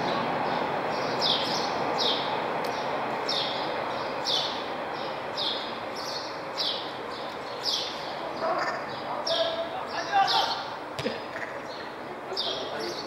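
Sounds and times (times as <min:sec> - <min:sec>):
high falling bird chirp: 0:00.4 - 0:13.0.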